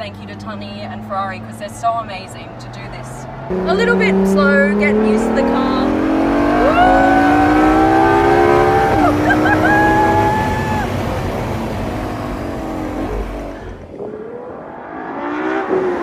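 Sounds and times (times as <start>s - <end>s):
engine accelerating hard: 0.0s - 16.0s.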